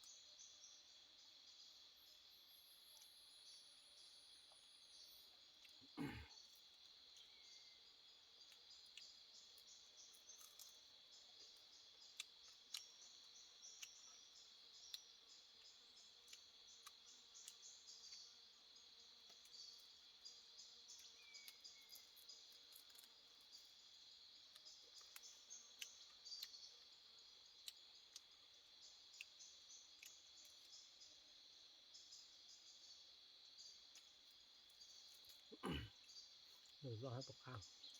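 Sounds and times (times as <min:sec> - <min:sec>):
insect chorus buzzing: 0:00.0 - 0:37.9.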